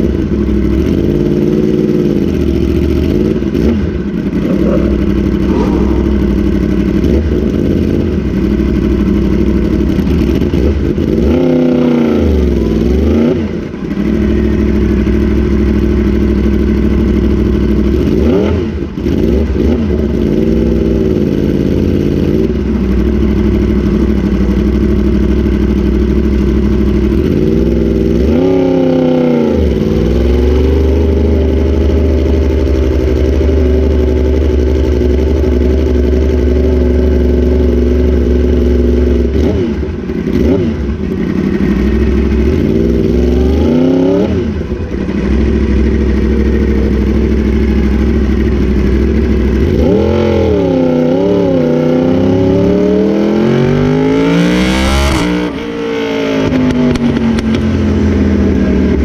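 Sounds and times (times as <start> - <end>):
motorcycle engine revving hard: 0.0 - 59.0.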